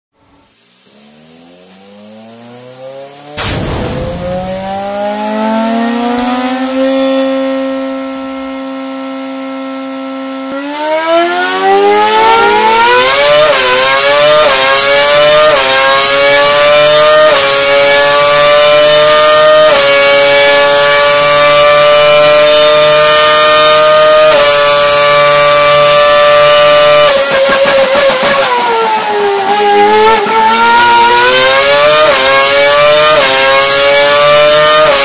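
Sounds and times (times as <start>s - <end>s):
racing engine revving: 0.9s - 35.0s.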